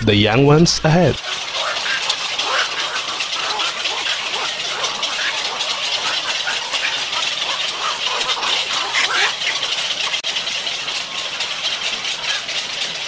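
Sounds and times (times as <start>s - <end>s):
heron colony clamor: 0.1s - 13.0s.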